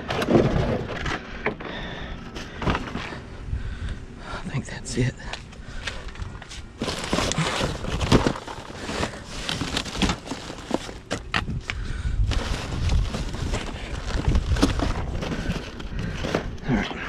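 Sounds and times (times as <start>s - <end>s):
plastic bags and cardboard rustling: 0.0s - 3.4s, 5.4s - 17.0s.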